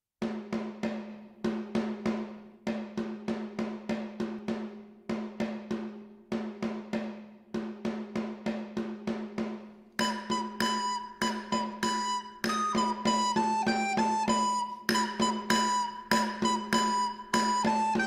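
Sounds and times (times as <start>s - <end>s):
drum beating a rhythm: 0.2s - 18.0s.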